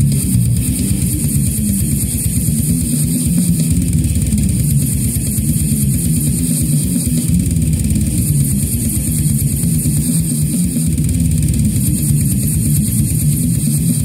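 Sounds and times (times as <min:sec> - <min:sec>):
distorted electric guitar riffing: 0:00.0 - 0:14.0
fast kick drum strokes: 0:00.0 - 0:14.0.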